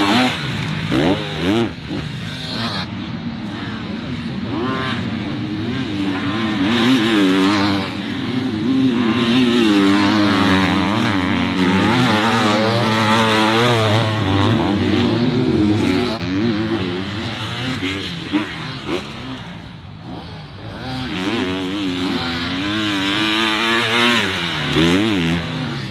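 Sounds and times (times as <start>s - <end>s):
motocross bike engines revving: 0.0s - 25.9s.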